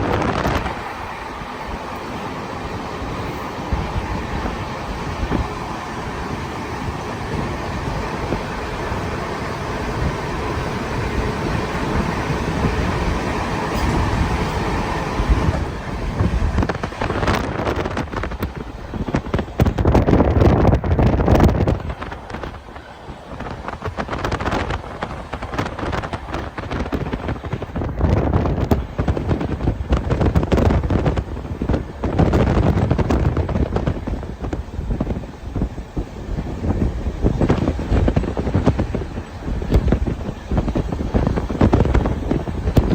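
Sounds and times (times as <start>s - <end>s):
vehicle engine rumbling: 0.0s - 42.9s
wind buffeting microphone: 0.0s - 42.9s.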